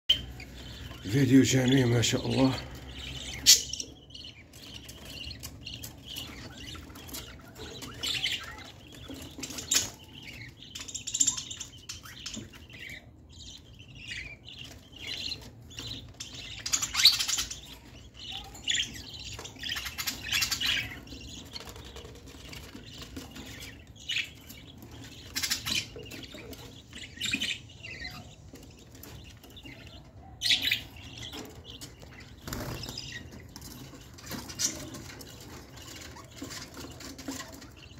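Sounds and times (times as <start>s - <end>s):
budgerigars chirping: 0.1s - 37.9s.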